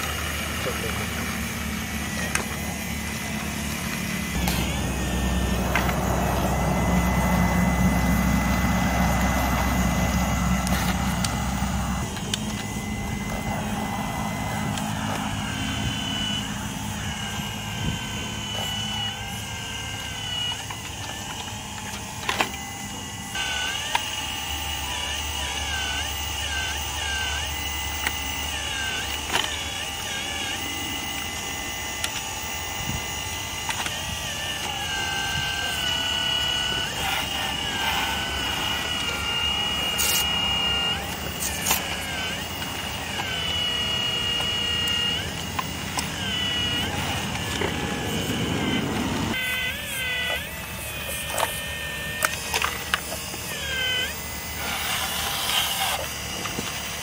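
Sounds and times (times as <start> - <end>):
excavator hum and whine: 0.0 - 57.0.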